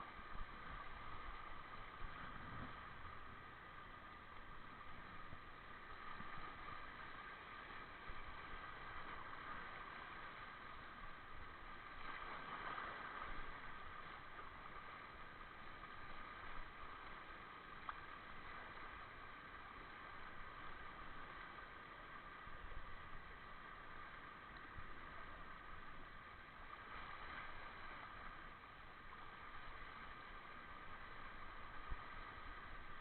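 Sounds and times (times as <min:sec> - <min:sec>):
sea waves on rocks: 0:00.0 - 0:33.0
wind: 0:00.0 - 0:33.0.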